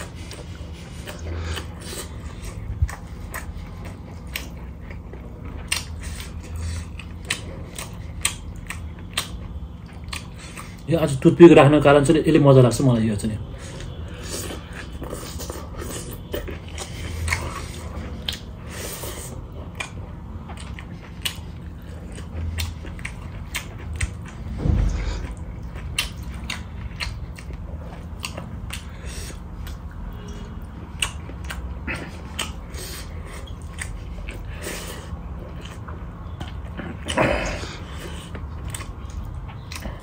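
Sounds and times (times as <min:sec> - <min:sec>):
chewing with wet mouth clicks: 0:00.0 - 0:10.9, 0:13.6 - 0:24.6, 0:25.2 - 0:40.0
low steady hum: 0:00.0 - 0:40.0.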